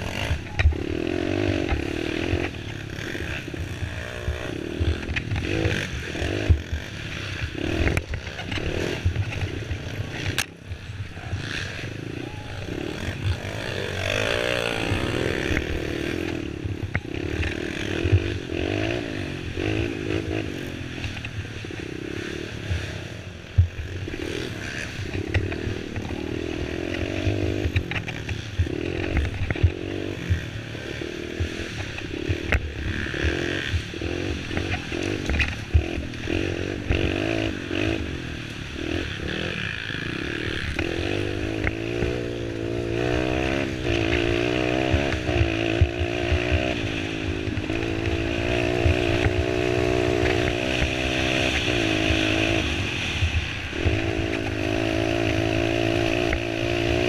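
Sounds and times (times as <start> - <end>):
quad engine revving: 0.0 - 23.1, 23.8 - 57.0
knocks and clatter over bumps: 1.4 - 11.9, 12.8 - 21.8, 22.6 - 38.2, 38.8 - 57.0.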